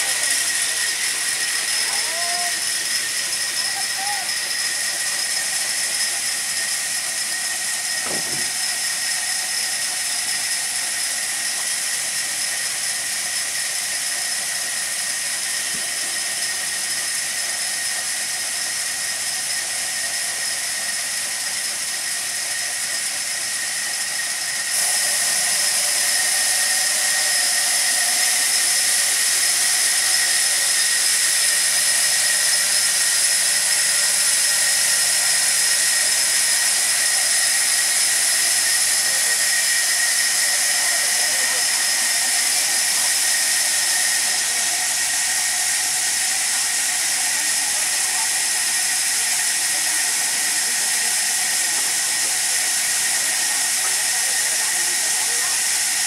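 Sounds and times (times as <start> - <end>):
band saw whining: 0.0 - 56.0.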